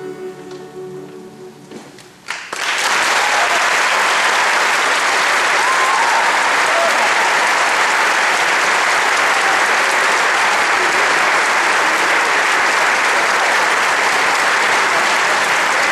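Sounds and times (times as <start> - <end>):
audience applauding: 2.2 - 15.9.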